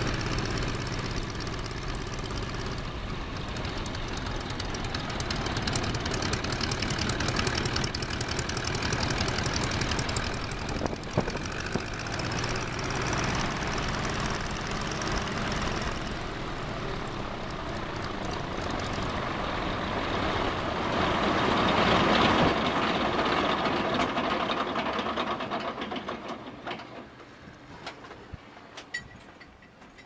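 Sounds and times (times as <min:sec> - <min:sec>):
radial aircraft engine idling: 0:00.0 - 0:27.0.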